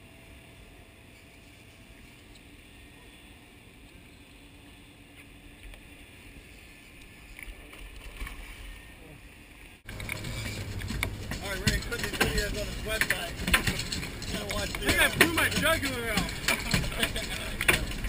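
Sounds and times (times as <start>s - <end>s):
muffled boat and water noise: 0.0s - 18.0s.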